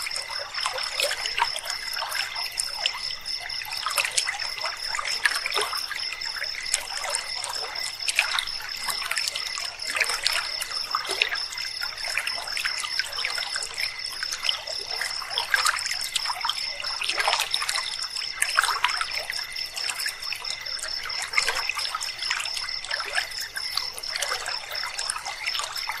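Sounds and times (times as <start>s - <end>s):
night insects trilling: 0.0s - 26.0s
river water trickling: 0.0s - 26.0s.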